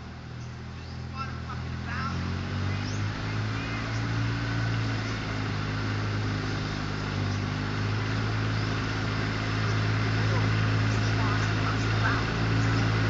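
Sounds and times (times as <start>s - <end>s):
tractor mower engine running: 0.0s - 13.0s.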